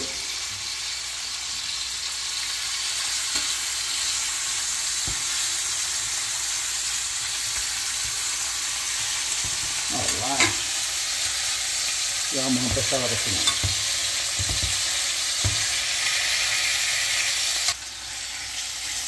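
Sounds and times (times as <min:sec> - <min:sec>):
fish frying in oil: 0:00.0 - 0:19.0.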